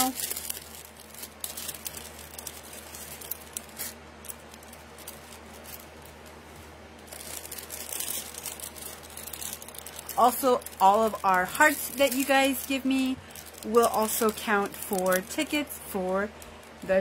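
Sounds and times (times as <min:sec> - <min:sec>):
jewelry rustling and clicking: 0:00.0 - 0:16.9.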